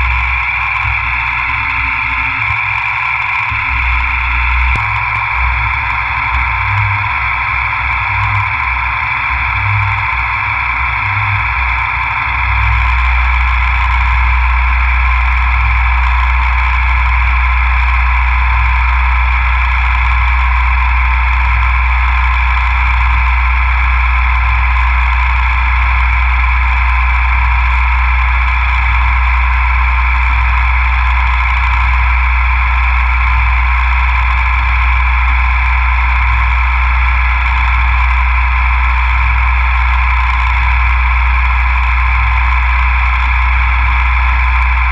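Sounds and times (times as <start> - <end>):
milling machine humming and whining: 0.0 - 44.9.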